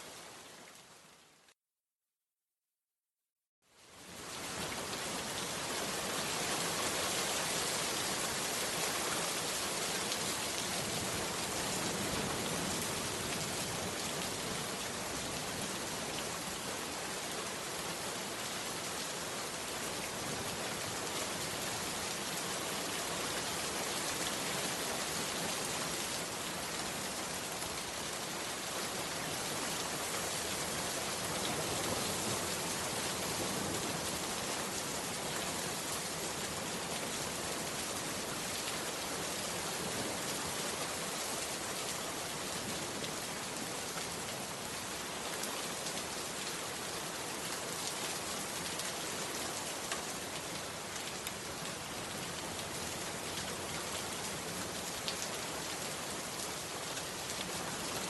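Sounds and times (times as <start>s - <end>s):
heavy rain falling: 4.0s - 58.0s.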